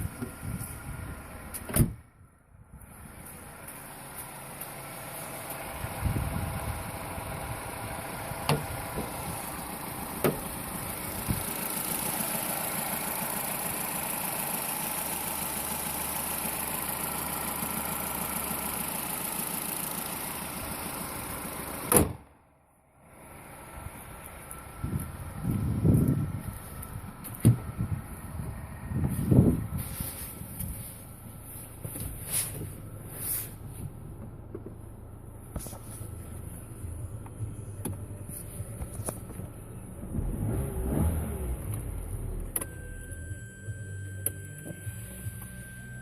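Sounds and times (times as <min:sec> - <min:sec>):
car engine running: 0:00.0 - 0:46.0.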